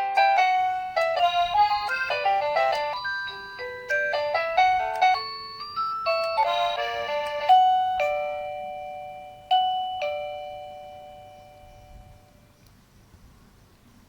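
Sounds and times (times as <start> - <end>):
electronic doorbell chime melody: 0.0 - 12.4.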